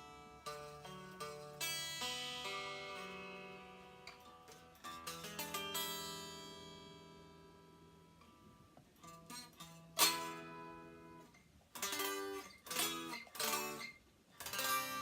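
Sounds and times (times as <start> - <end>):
unplugged electric guitar: 0.0 - 15.0.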